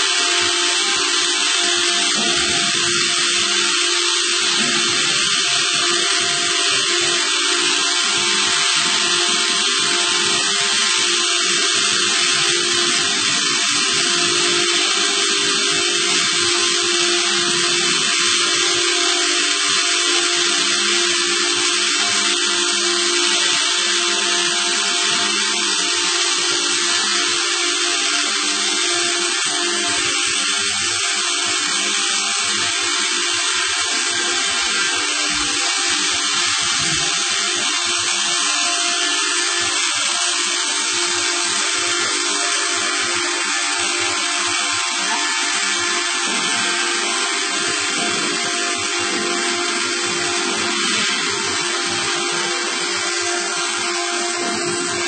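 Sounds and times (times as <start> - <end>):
machine whine over hiss: 0.0 - 55.0.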